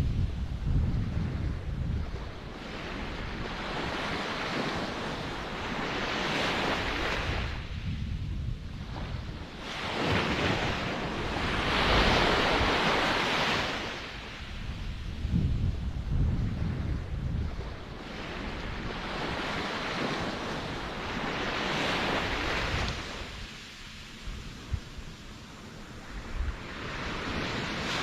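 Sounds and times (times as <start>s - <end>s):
ocean waves breaking: 0.0s - 28.0s
wind rumble on microphone: 0.0s - 28.0s.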